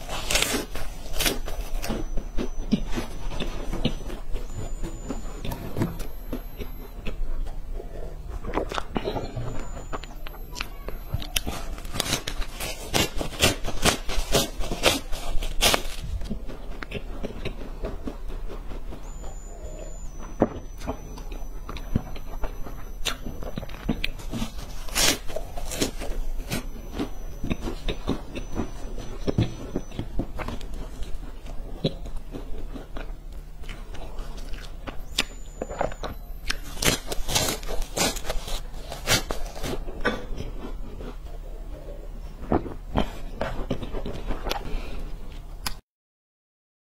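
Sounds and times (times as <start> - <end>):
crunching and chewing snacks: 0.0 - 45.8
low electrical hum: 0.0 - 45.8.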